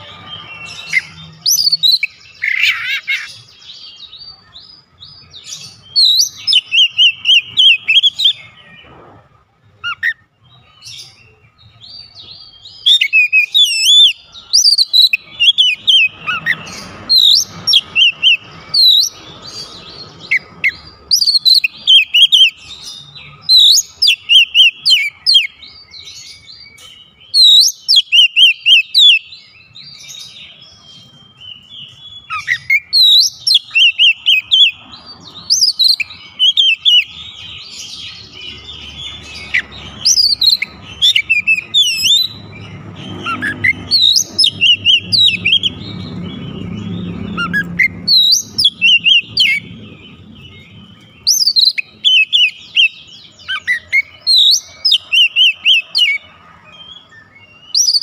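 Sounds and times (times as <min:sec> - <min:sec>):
magpie-robin singing whistled phrases: 0:00.0 - 0:08.8, 0:09.8 - 0:58.0.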